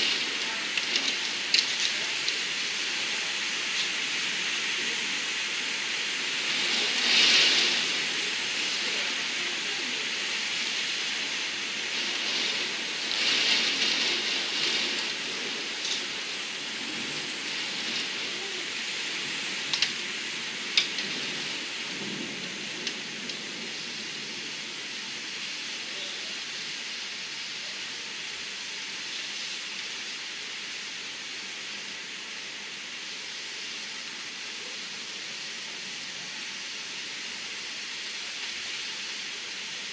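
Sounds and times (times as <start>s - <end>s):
heavy rain on window: 0.0s - 39.9s.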